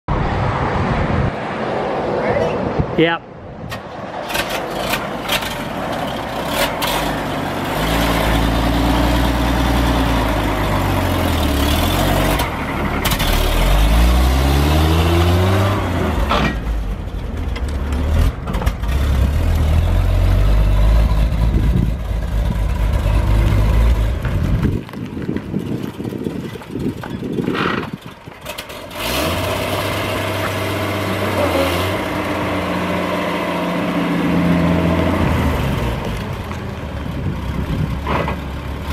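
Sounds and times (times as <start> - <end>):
truck engine revving: 3.8 - 24.8, 25.5 - 38.9.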